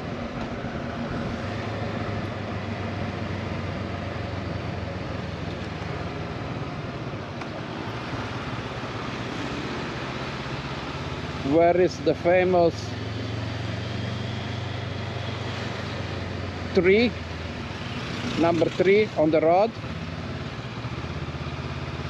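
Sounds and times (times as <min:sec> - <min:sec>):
motorcycle engine hum: 0:00.0 - 0:22.0.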